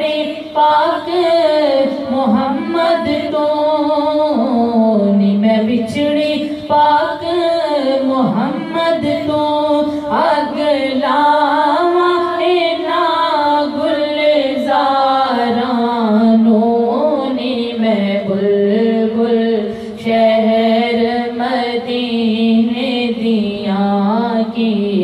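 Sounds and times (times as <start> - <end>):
woman singing in long held notes: 0.0 - 25.0.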